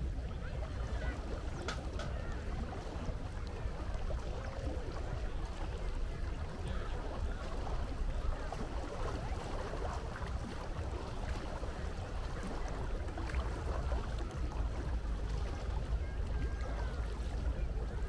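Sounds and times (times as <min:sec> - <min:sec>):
sea water lapping: 0:00.0 - 0:18.0.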